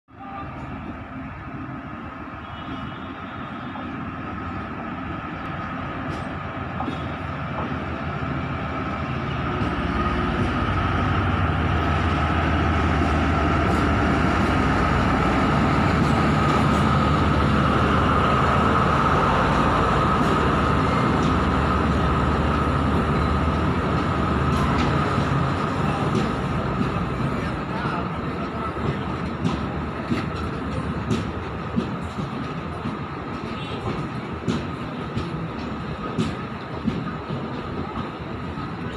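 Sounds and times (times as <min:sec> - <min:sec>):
high train whine: 0:00.1 - 0:38.9
train rumbling past: 0:00.1 - 0:38.9.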